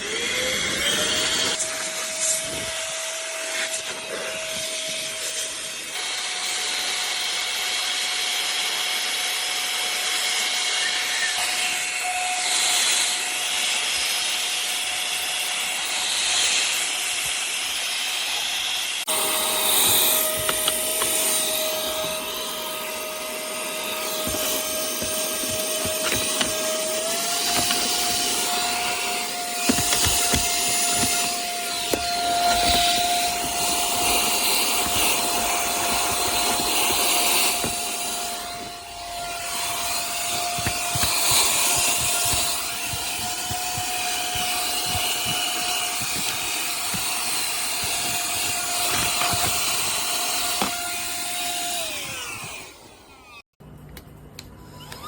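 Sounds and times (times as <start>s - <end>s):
handheld vacuum running: 0.0s - 53.4s.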